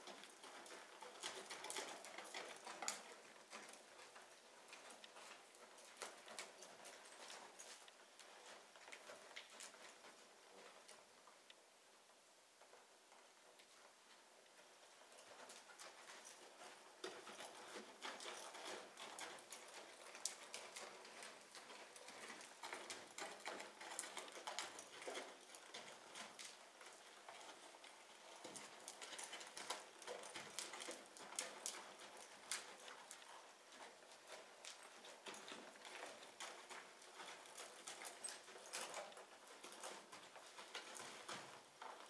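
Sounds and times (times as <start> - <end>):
hoofbeats in sand: 0.0 - 11.1, 13.2 - 42.0.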